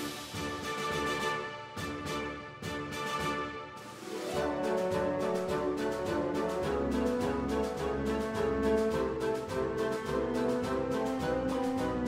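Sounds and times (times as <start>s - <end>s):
music with held melody and beat: 0.0s - 12.0s.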